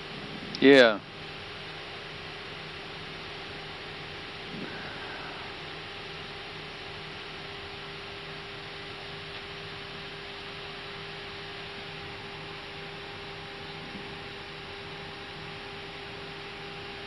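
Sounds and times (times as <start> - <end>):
cockpit hiss: 0.0 - 15.0
constant hum: 0.0 - 17.0.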